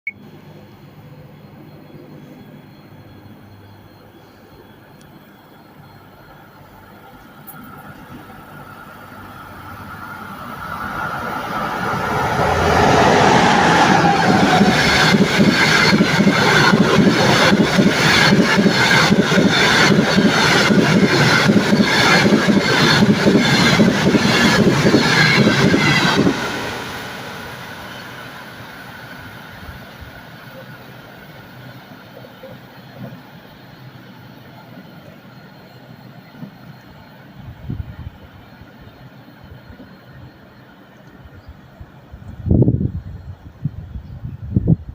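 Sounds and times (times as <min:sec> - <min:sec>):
train passing: 0:00.3 - 0:44.9.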